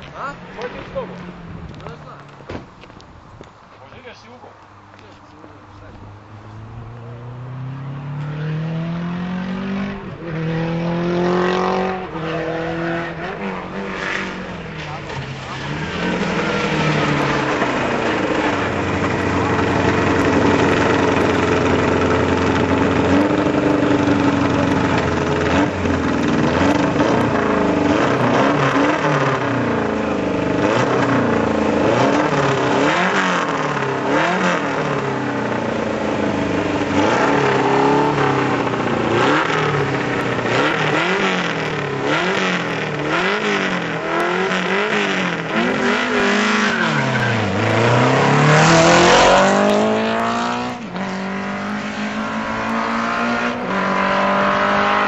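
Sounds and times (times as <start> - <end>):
race car engines revving: 0.0 - 55.0
race car engine running: 7.8 - 55.0.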